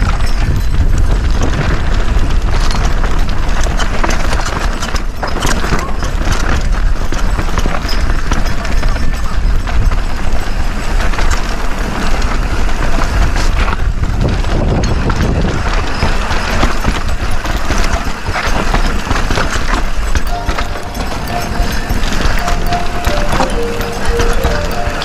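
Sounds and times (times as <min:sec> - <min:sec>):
bike rattling over rocks: 0:00.0 - 0:20.3
wind rumbling on microphone: 0:00.0 - 0:20.4.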